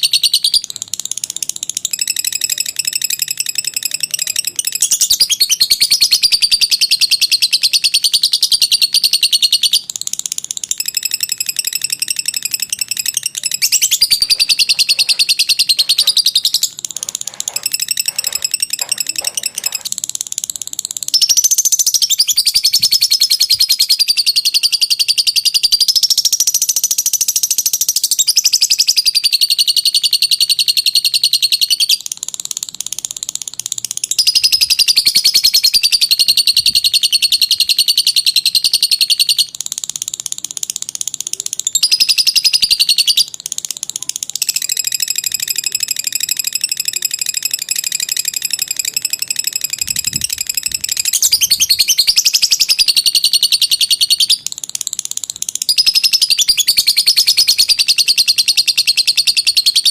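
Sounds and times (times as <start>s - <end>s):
lovebird trilling: 0.0s - 59.9s.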